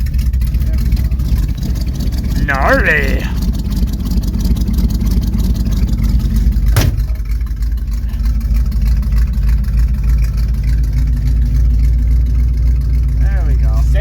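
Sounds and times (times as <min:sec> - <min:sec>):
pickup engine running: 0:00.0 - 0:14.0.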